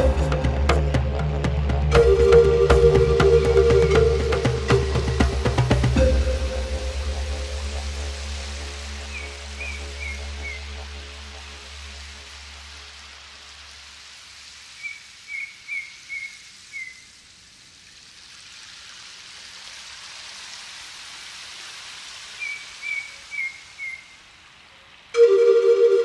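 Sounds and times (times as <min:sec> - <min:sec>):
rain: 0:00.0 - 0:26.0.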